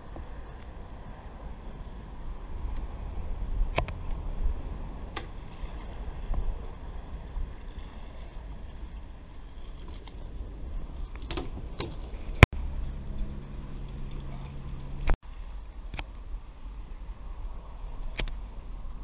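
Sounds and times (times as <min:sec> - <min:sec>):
low steady hum: 0:00.0 - 0:19.0
wind rumble on microphone: 0:00.0 - 0:19.0.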